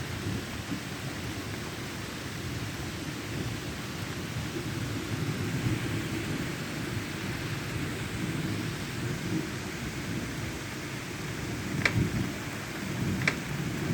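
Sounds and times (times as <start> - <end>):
heavy rain falling: 0.0 - 13.9
thunder rumbling: 2.6 - 13.9.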